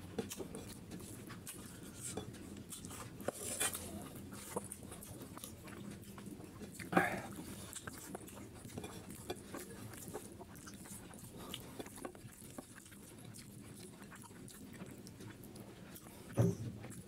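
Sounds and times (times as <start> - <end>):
fingers mixing rice: 0.0 - 16.3
chewing smacks: 0.0 - 17.0.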